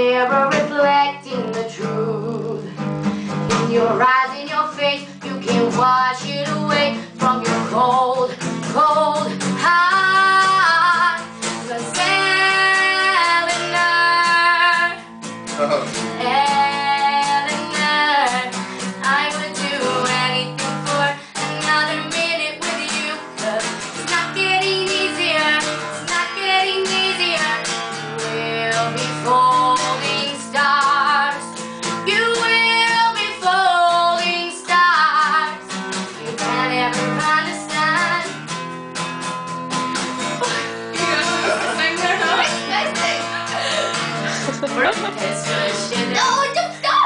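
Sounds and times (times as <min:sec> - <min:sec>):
woman singing: 0:00.0 - 0:15.1, 0:16.1 - 0:38.4, 0:40.3 - 0:46.9
strummed acoustic guitar: 0:00.0 - 0:47.0.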